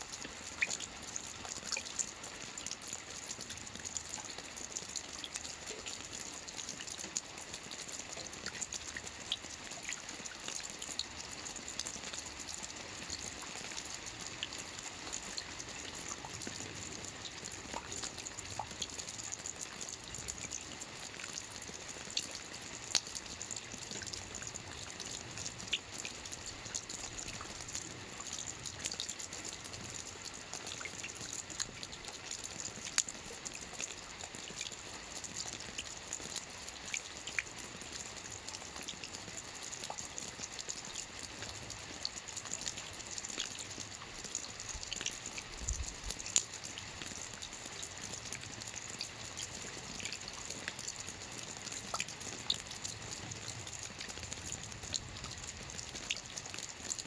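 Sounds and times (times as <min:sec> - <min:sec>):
rain hissing on a roof: 0:00.0 - 0:57.0.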